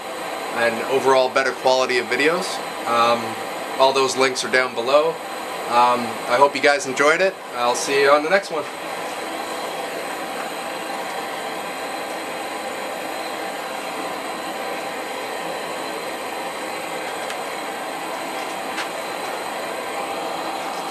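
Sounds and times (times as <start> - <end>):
gas torch burner hissing: 0.0 - 20.9.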